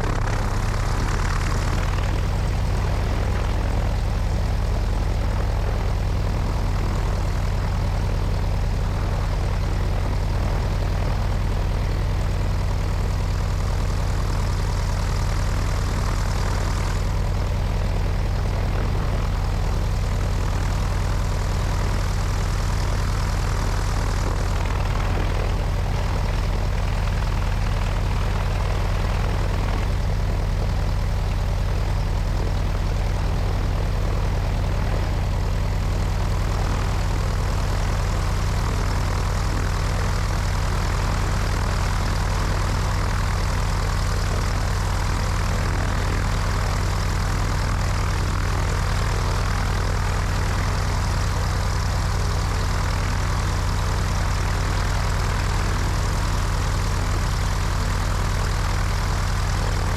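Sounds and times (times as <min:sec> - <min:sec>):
propeller plane engine in flight: 0:00.0 - 0:59.9.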